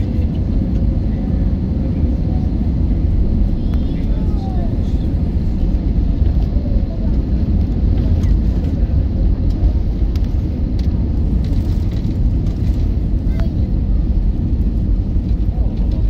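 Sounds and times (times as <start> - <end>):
airliner cabin low rumble: 0.0 - 16.0.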